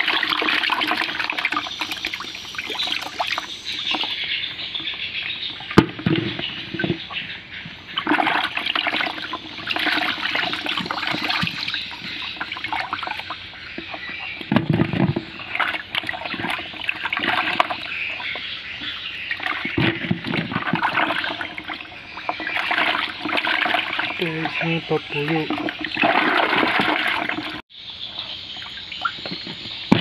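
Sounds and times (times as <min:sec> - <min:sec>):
water sloshing in a bucket: 0:00.0 - 0:30.0.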